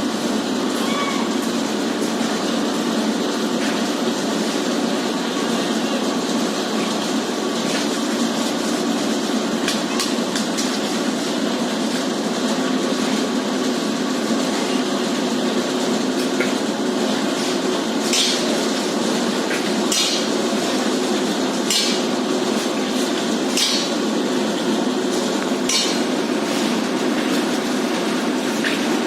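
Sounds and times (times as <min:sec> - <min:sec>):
construction site din: 0:00.0 - 0:29.0.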